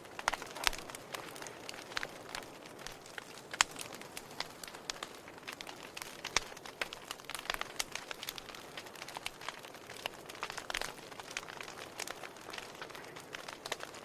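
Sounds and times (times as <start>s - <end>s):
steady fire hiss: 0.0s - 14.0s
wood fire crackling and popping: 0.0s - 14.0s.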